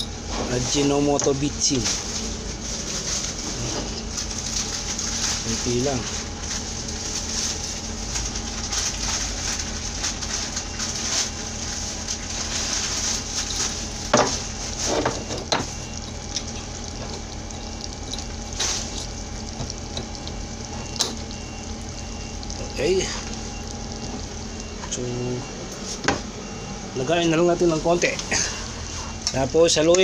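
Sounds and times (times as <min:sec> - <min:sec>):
faint hum: 0:00.0 - 0:30.0
stew sizzling and bubbling: 0:00.0 - 0:30.0.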